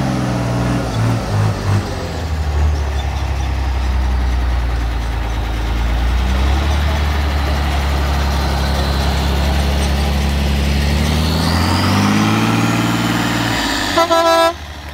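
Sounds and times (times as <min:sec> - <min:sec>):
truck engine idling and revving: 0:00.0 - 0:14.9.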